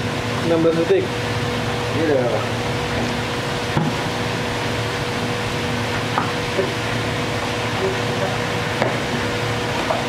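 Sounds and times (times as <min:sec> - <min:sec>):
air conditioning hiss and hum: 0:00.0 - 0:10.0.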